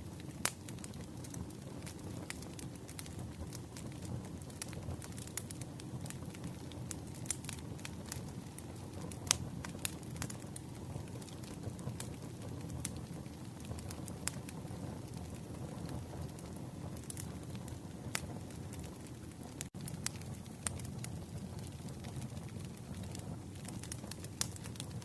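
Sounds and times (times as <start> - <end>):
campfire crackling: 0.0 - 25.0.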